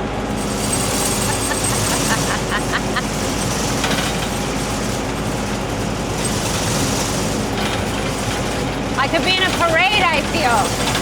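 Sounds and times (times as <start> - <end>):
diesel engine running loud: 0.0 - 11.0
tracks rattling clatter: 0.0 - 11.0.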